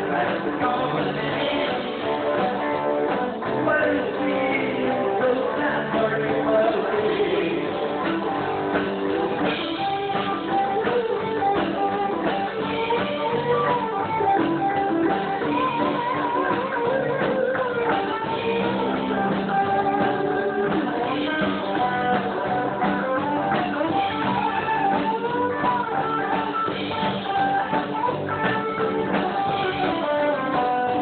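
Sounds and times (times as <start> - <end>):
live rock band playing: 0.0 - 31.0.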